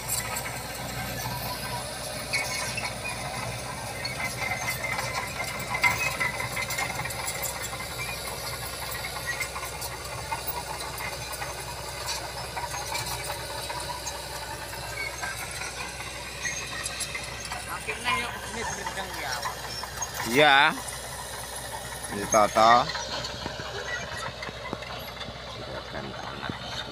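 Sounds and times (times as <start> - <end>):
bulldozer engine running: 0.0 - 26.9
metal tracks clanking and rattling: 0.0 - 26.9.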